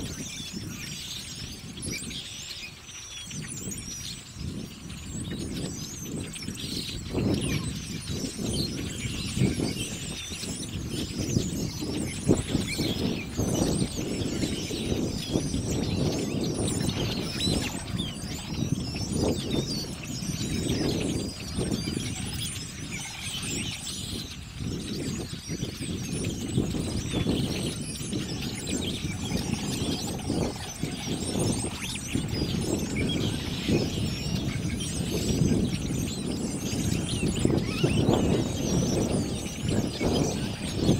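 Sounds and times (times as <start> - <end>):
flock of blackbirds chattering: 0.0 - 40.9.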